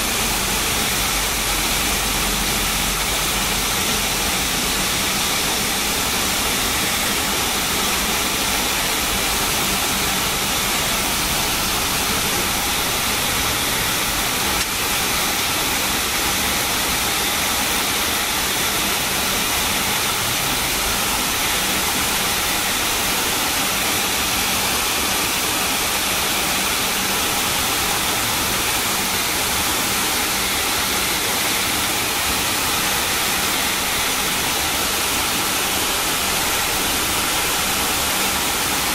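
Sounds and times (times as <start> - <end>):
hissing aircraft cabin noise: 0.0 - 38.9.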